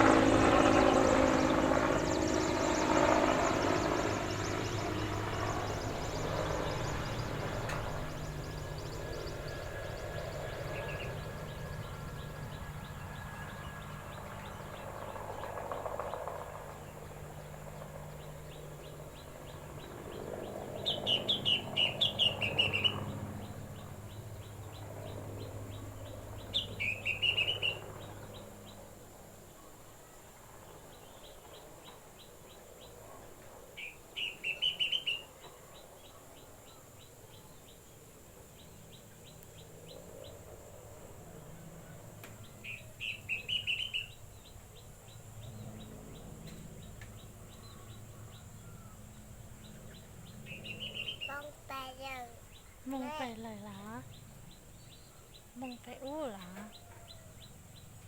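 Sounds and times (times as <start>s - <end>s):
bird chirping descending phrases: 0.0s - 29.7s, 33.8s - 37.8s, 42.4s - 58.0s.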